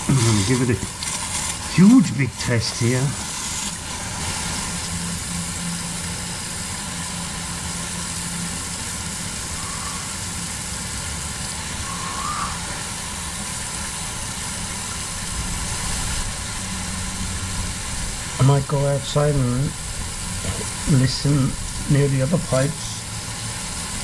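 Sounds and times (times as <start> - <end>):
low hum: 0.0 - 24.0
water rushing from a hose: 0.0 - 24.0.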